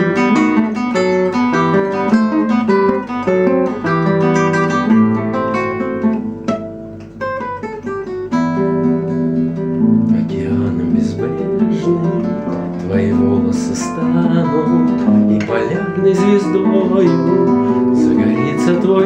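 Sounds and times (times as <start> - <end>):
acoustic guitar strumming and picking: 0.0 - 19.0.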